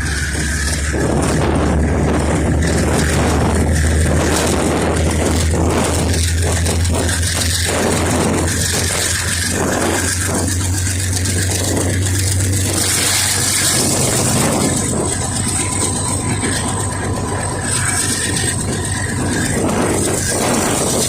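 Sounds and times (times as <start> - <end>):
faint high whine: 0.0 - 21.0
locomotive diesel engine drone: 0.0 - 21.0
train rattling: 0.0 - 21.0.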